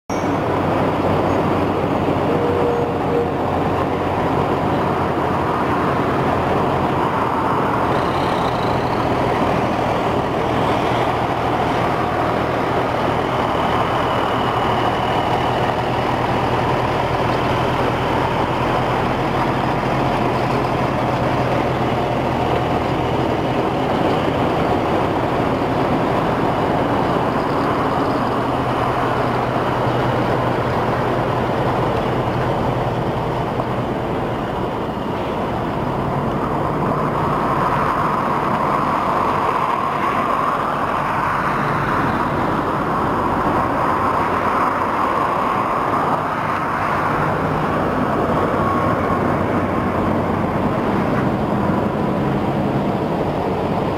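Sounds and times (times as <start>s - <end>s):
truck diesel engine running: 0.2s - 53.9s.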